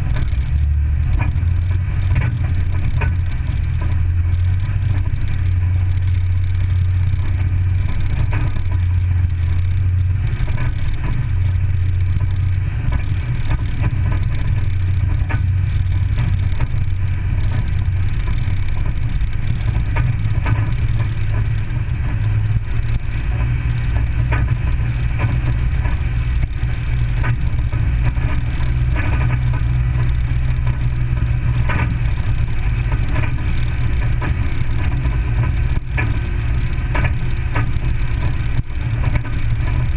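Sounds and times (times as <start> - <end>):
gravel knocks and rattles: 0.0 - 39.9
vehicle engine drone: 0.0 - 39.9.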